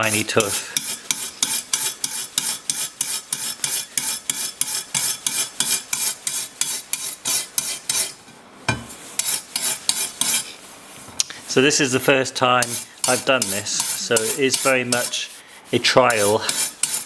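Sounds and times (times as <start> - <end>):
wire brush scrubbing saw blade: 0.0 - 8.2, 9.1 - 10.6, 11.4 - 17.0.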